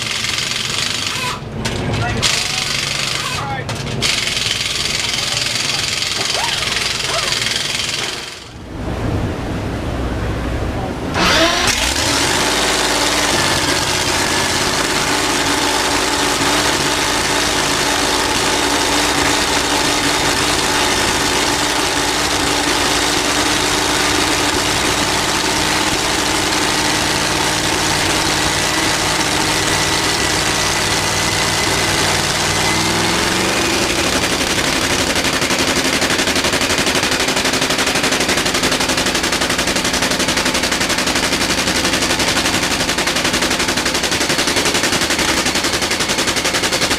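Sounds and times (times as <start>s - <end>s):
race car engine idling: 0.0s - 9.0s, 10.0s - 46.9s.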